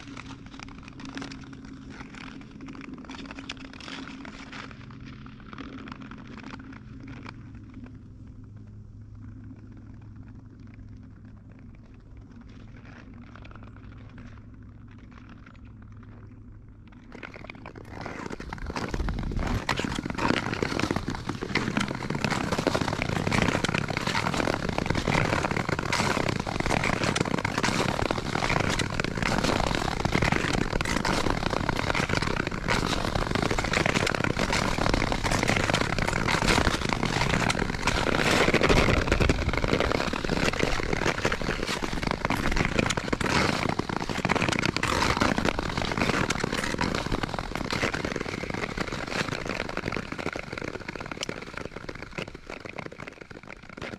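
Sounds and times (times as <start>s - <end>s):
skate blades scraping ice: 0.0s - 7.9s, 17.1s - 53.9s.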